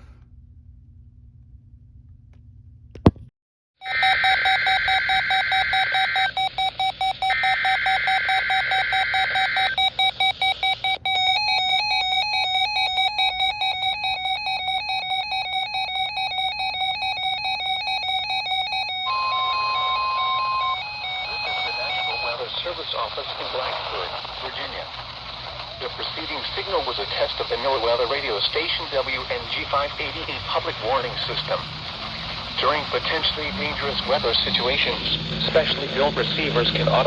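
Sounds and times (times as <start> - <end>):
screechy digital data: 3.8 - 11.0, 11.8 - 37.0
weather alert radios beeping: 3.8 - 37.0.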